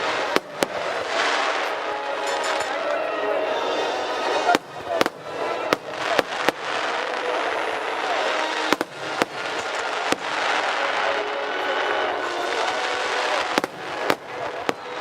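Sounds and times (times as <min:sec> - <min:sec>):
fireworks bangs: 0:00.0 - 0:03.0, 0:03.7 - 0:15.0
noisy fireworks rush: 0:00.0 - 0:15.0.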